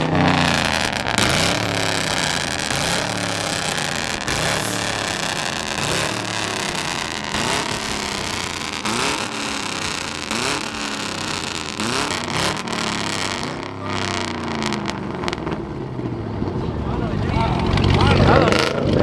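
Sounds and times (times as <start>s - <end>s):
car engine revving hard: 0.0s - 16.6s, 17.6s - 19.0s.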